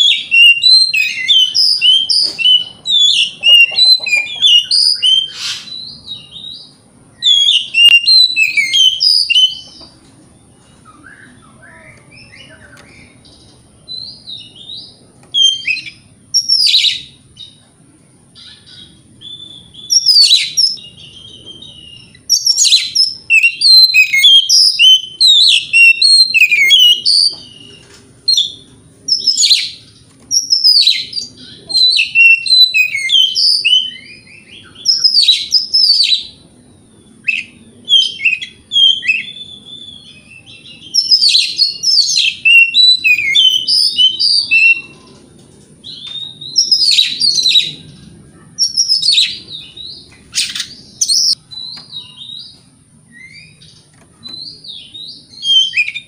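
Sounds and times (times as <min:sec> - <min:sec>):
songbird whistles and chirps: 0:00.0 - 0:17.6, 0:18.4 - 0:45.2, 0:45.8 - 0:48.0, 0:48.6 - 0:56.0.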